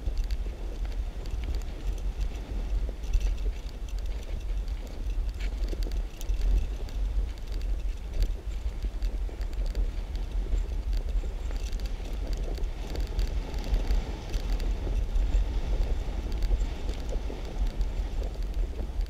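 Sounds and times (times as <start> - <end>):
bicycle rattling ticks: 0.0 - 19.0
wind buffeting microphone: 0.0 - 19.0.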